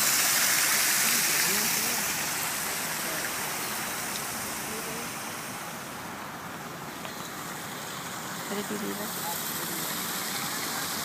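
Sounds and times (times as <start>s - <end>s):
water rushing over fountain: 0.0s - 11.0s.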